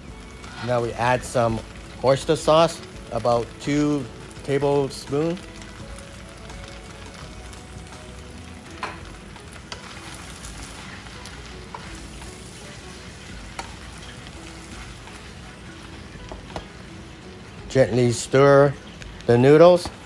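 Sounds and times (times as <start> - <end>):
noodles sizzling in frying pan: 0.0 - 20.0
spatula stirring food: 0.1 - 4.7, 5.3 - 20.0.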